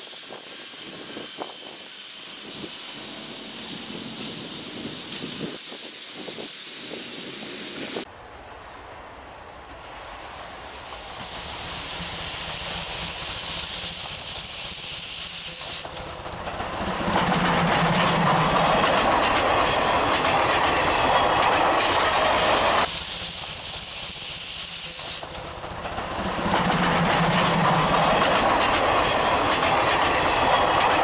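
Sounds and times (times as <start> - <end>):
steam locomotive hissing steam: 0.0 - 31.0
train wheels rumbling on rails: 0.0 - 31.0.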